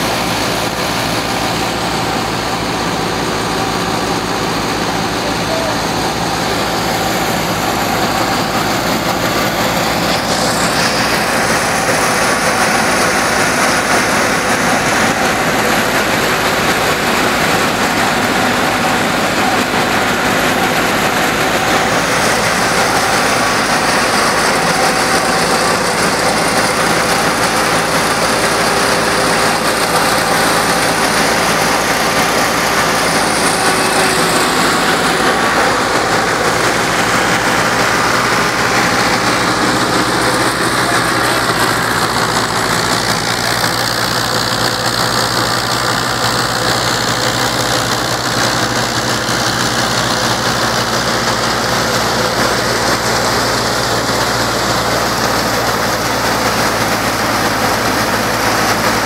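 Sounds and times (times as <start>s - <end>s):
thresher churning: 0.0s - 59.0s
tractor engine running: 0.0s - 59.0s.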